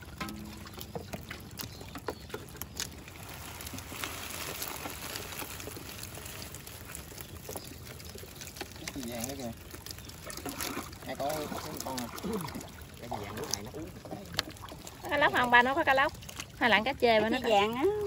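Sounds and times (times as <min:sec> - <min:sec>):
fish flopping and slapping: 0:00.0 - 0:18.0
water splashing and dripping: 0:00.0 - 0:18.0.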